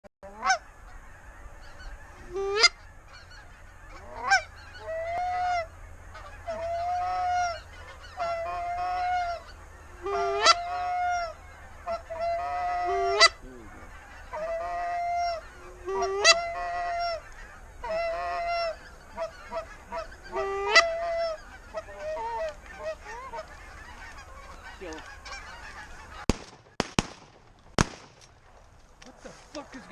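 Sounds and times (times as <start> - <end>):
geese honking: 0.2 - 29.9.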